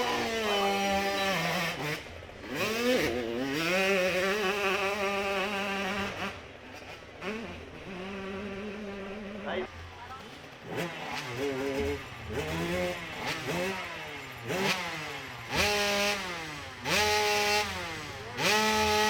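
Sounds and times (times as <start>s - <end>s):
motorcycle engine revving hard: 0.0s - 9.6s, 10.5s - 19.0s.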